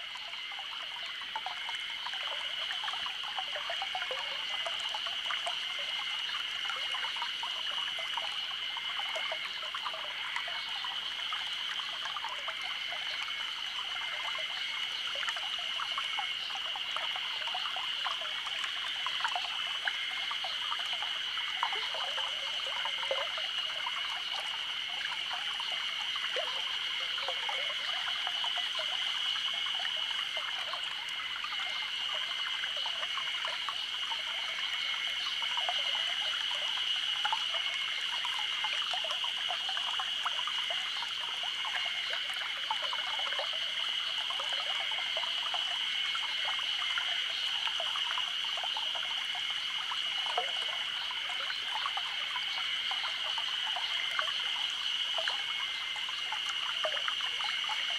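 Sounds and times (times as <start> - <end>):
cicadas droning: 0.0 - 57.9
stream babbling: 0.0 - 57.9.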